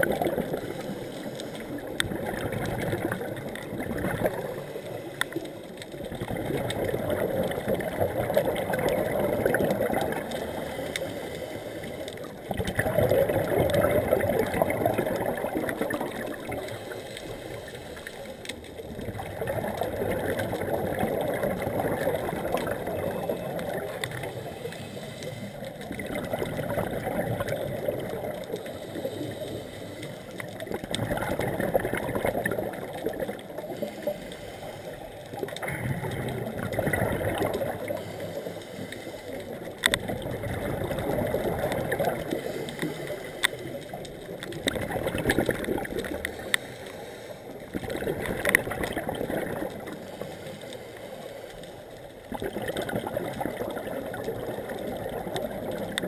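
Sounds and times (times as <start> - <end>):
underwater regulator breathing: 0.0 - 6.9, 8.7 - 52.0
exhaled bubbles gurgling: 0.0 - 56.0.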